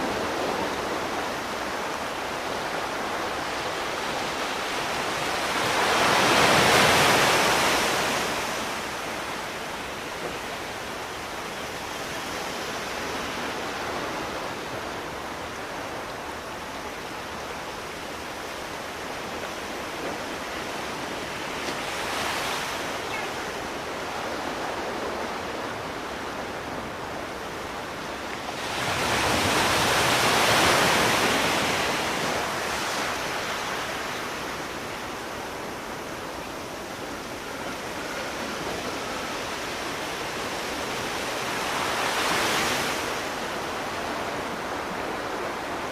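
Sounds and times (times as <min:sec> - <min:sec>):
surf washing on a shore: 0:00.0 - 0:45.9.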